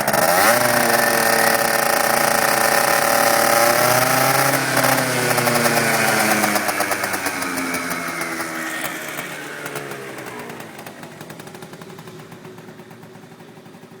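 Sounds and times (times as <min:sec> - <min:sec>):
exhaust crackle: 0:00.0 - 0:13.6
scooter engine revving: 0:00.0 - 0:14.0.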